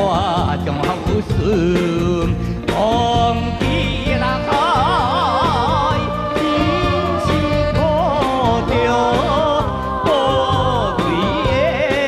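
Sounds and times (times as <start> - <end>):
pop song instrumental melody: 0.0 - 12.0.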